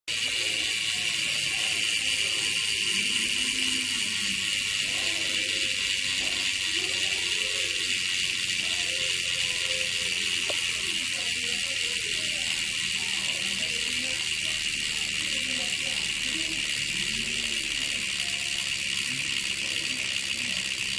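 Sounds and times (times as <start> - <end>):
bicycle freehub buzzing: 0.1 - 20.9.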